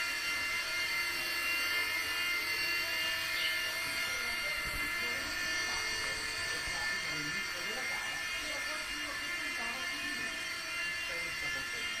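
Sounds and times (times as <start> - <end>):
rc helicopter high-pitched whine: 0.0 - 12.0.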